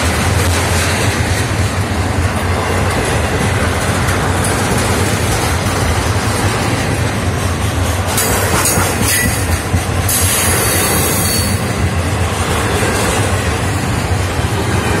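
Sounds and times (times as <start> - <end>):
clickety-clack of rails: 0.0 - 15.0
freight train wheels rumbling: 0.0 - 15.0.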